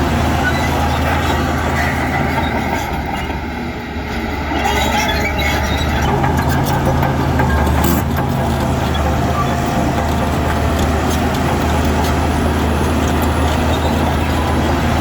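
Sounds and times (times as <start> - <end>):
heavy diesel engine drone: 0.0 - 15.0.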